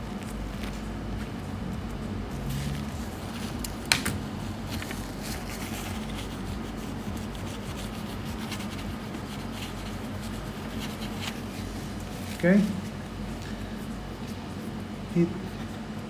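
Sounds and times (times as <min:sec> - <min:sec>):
handling and rubbing laptop parts: 0:00.0 - 0:16.0
steady low hum: 0:00.0 - 0:16.0.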